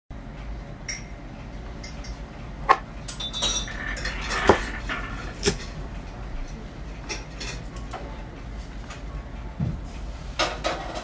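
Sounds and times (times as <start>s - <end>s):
low room hum: 0.2s - 11.0s.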